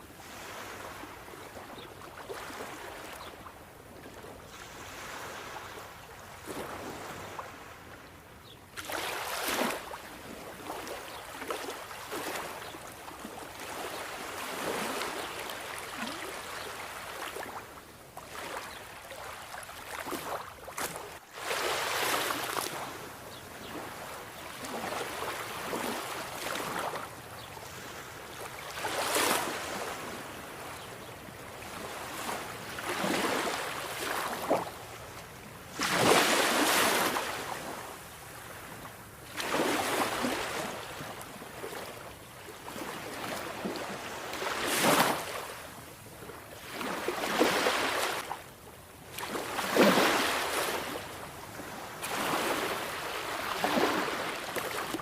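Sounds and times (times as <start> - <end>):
sea waves breaking on shore: 0.0 - 8.0, 8.7 - 55.0.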